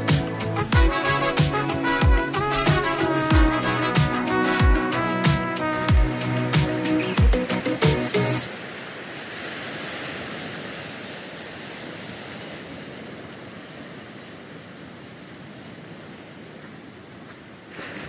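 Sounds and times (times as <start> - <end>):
rough sea surf: 0.0 - 18.0
wind: 0.0 - 18.0.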